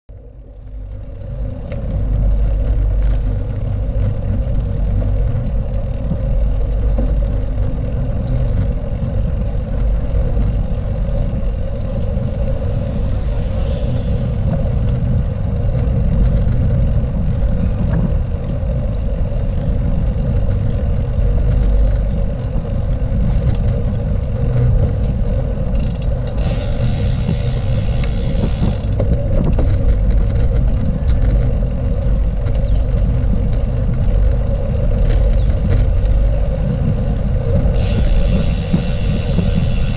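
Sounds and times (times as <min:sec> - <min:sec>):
wheels rolling on asphalt: 0:00.1 - 0:39.9
wind buffeting on microphone: 0:00.2 - 0:39.9.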